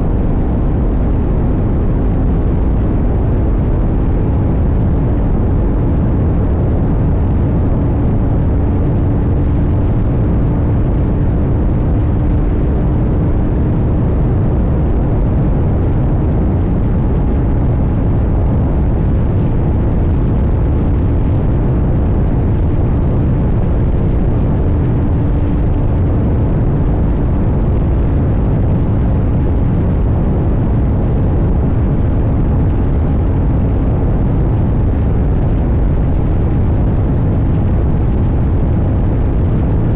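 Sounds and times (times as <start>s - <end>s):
wind rush on microphone: 0.0s - 39.9s.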